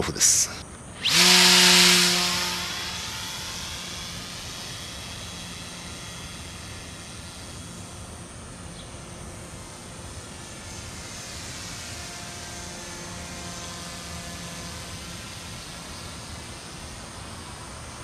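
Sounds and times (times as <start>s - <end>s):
model airplane electric motor whine: 0.8s - 18.0s.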